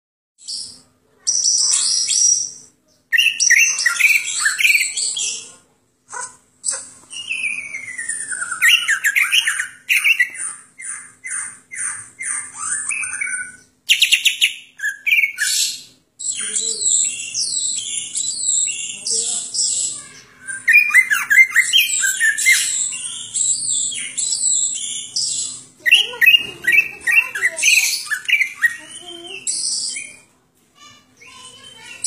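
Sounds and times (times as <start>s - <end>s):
bird singing whistles and trills: 0.4s - 5.4s, 6.7s - 30.3s.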